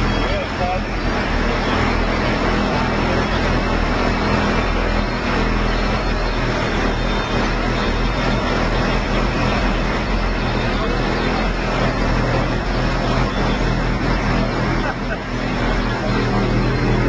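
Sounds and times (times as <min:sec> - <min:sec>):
rough noisy wash: 0:00.0 - 0:17.0
subwoofer playing low bass tone: 0:00.0 - 0:17.0.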